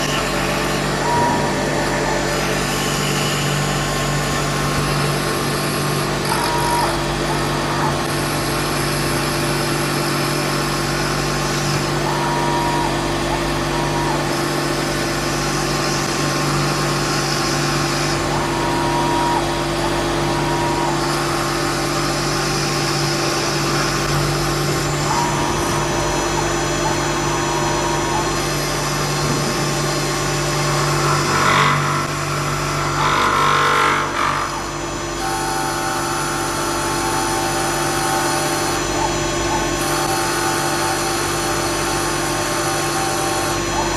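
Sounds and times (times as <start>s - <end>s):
axis motors whining: 0.0s - 43.9s
lathe motor hum: 0.0s - 43.9s
wood cutting noise: 0.0s - 43.9s.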